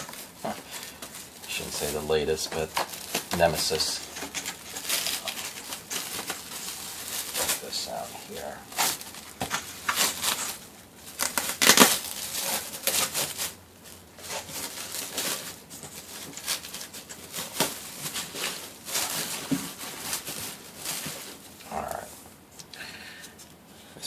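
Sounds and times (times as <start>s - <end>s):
packaging crinkling: 0.0s - 21.7s.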